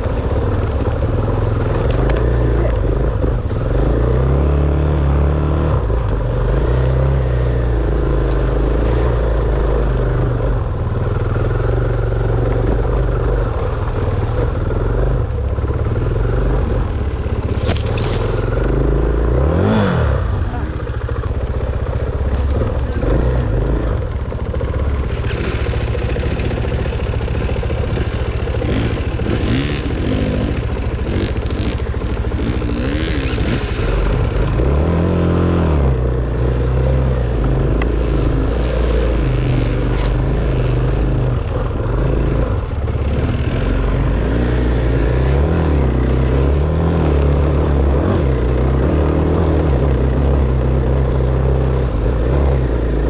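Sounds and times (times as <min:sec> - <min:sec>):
dirt bike engine revving: 0:00.0 - 0:13.5, 0:14.4 - 0:53.0.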